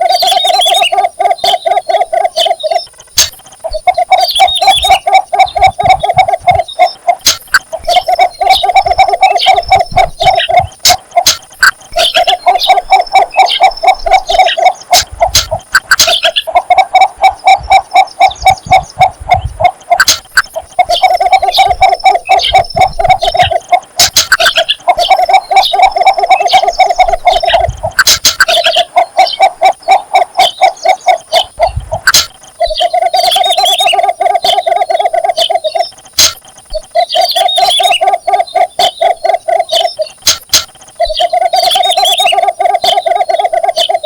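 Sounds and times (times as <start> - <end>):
bird croaking call: 0.0 - 44.0
high bird chirps: 0.0 - 44.0.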